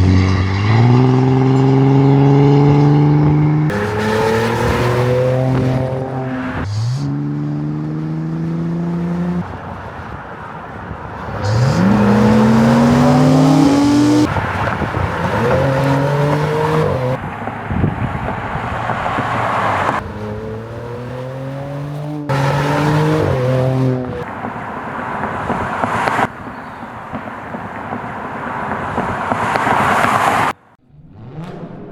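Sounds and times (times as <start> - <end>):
car engine revving: 0.0 - 9.8, 11.1 - 31.9.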